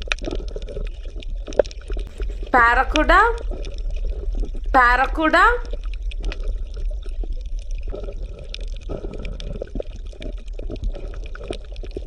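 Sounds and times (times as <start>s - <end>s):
underwater bubbling and gurgling: 0.0s - 2.5s, 3.4s - 4.8s, 5.6s - 12.0s.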